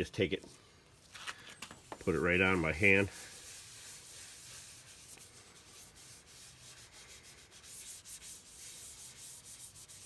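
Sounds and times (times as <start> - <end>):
scratchy rubbing on plastic: 1.9 - 10.0.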